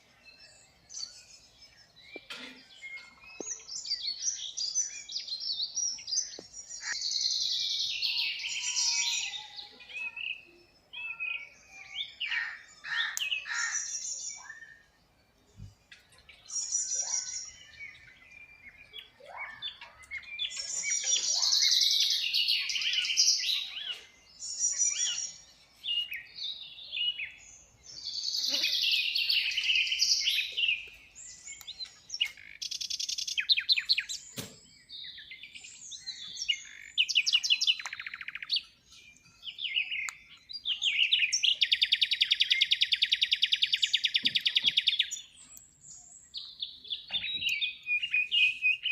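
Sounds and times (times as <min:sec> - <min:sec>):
birds whistling and trilling: 0:00.0 - 0:48.9.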